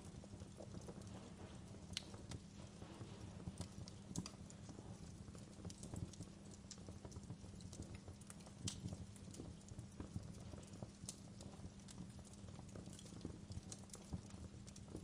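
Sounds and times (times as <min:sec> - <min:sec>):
low rumble of burning fire: 0:00.0 - 0:15.0
wood fire crackling: 0:00.0 - 0:15.0.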